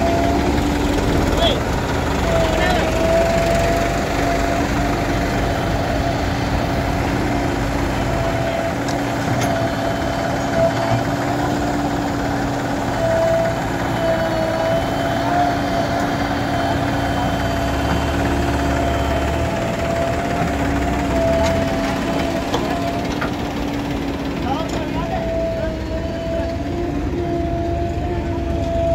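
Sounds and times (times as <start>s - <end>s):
backhoe loader engine running: 0.0s - 28.9s
tractor engine idling: 0.0s - 28.9s.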